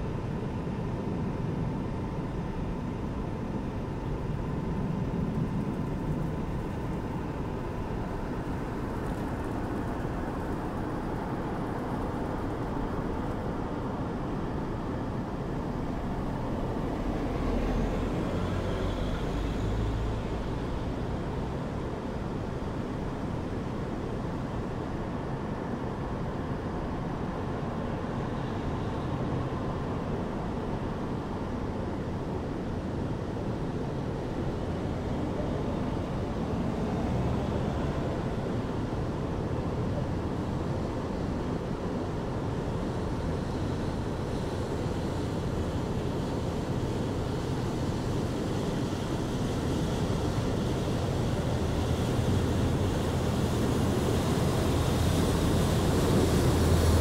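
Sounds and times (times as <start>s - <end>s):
distant city traffic rumble: 0.0s - 57.0s.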